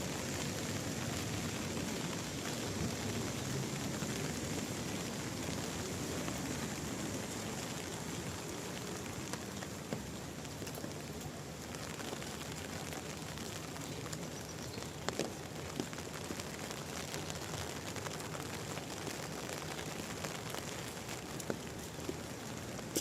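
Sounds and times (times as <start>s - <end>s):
steady rain falling: 0.0s - 23.0s
louder rain taps: 0.3s - 23.0s.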